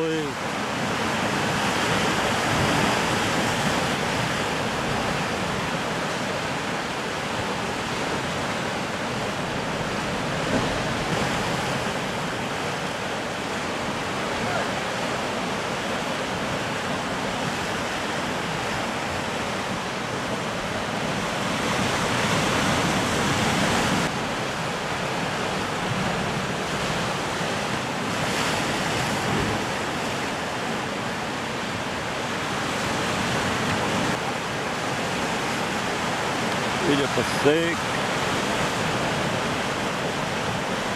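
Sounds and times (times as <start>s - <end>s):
surf breaking on rocky shore: 0.0s - 40.9s.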